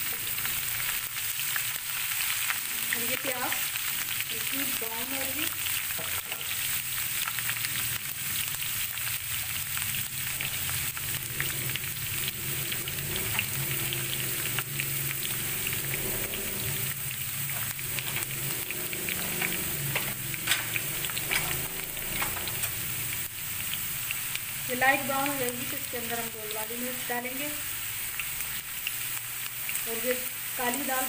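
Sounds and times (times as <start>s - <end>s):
onions sizzling in oil: 0.0s - 31.0s.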